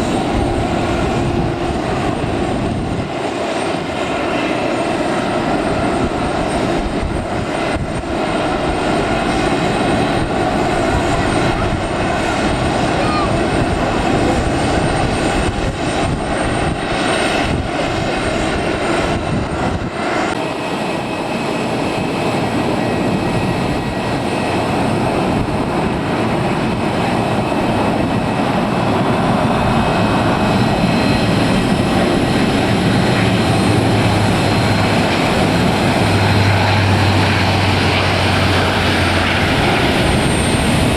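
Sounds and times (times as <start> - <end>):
high engine whine: 0.0 - 40.9
jet engines roaring: 0.0 - 40.9.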